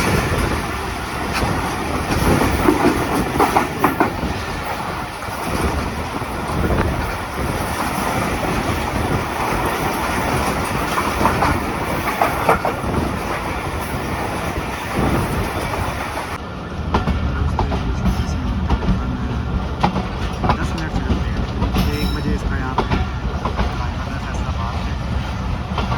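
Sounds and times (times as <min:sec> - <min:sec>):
train rumbling: 0:00.0 - 0:25.9
wheels clattering over rail joints: 0:00.0 - 0:25.9.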